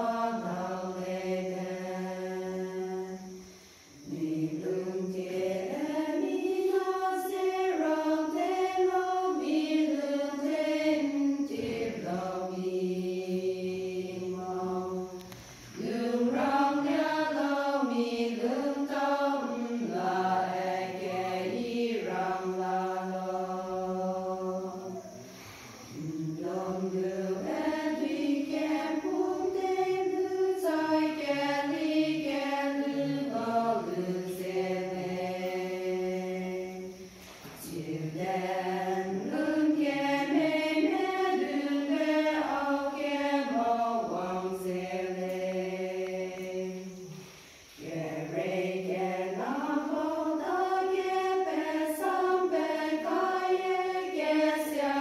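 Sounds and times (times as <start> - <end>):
women's choir singing: 0.0 - 55.0.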